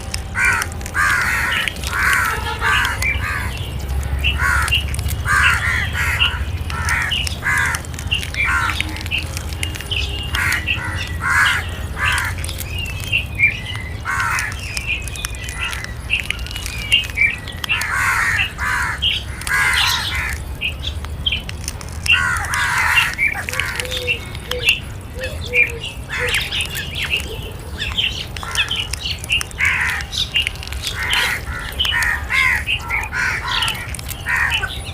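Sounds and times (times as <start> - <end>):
crows cawing: 0.0 - 20.8, 22.0 - 34.9
thin bird chirps: 0.0 - 34.9.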